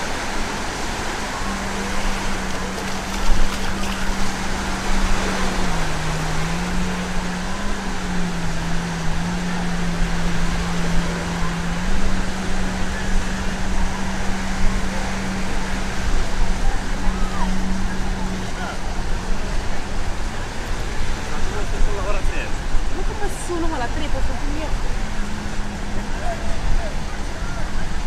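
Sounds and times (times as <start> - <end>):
surf: 0.0 - 28.0
wind: 0.0 - 28.0.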